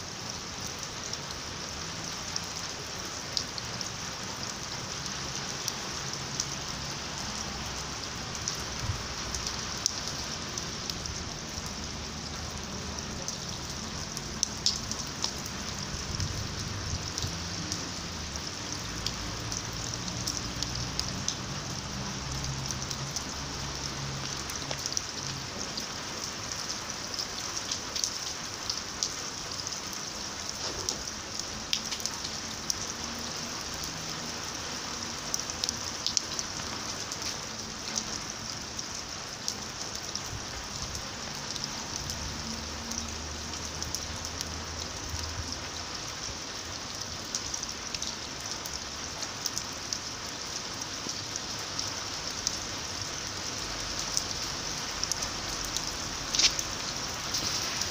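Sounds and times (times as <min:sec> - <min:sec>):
rain falling into standing water: 0:00.0 - 0:57.9.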